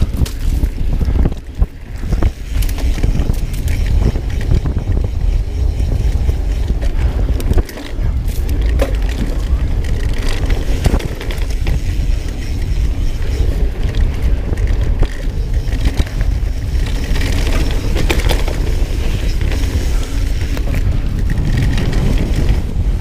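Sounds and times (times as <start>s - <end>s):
bike rattling clicks and knocks: 0.0s - 23.0s
wind rumble on microphone: 0.0s - 23.0s.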